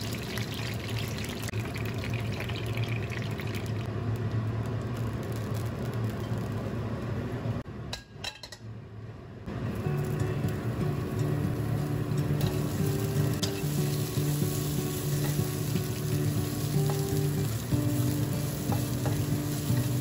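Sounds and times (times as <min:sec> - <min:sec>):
hot oil sizzling: 0:00.0 - 0:07.2, 0:09.5 - 0:20.0.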